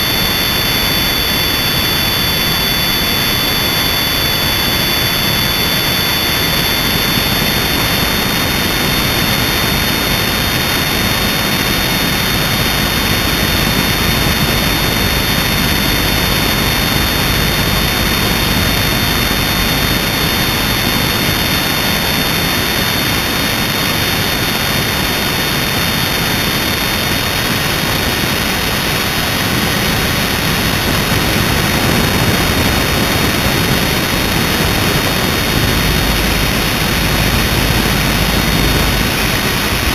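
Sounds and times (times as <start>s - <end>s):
rc helicopter rotor drone: 0.0s - 39.9s.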